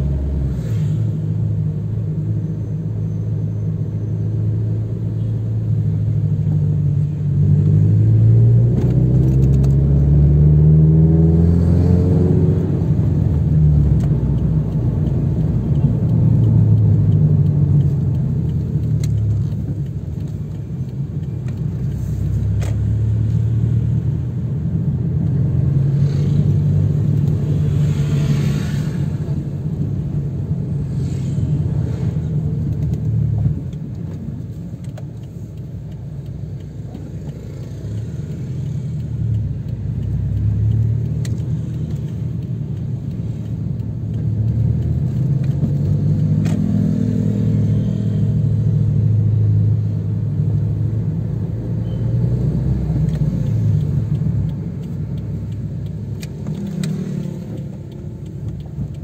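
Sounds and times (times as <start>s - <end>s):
car engine: 0.0s - 59.0s
road noise inside car: 0.0s - 59.0s.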